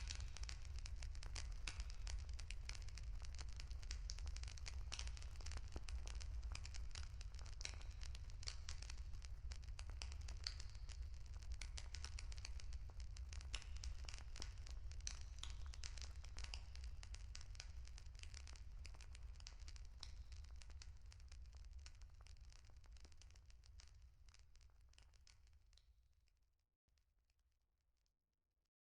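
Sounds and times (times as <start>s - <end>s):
campfire crackling and popping: 0.0s - 25.5s.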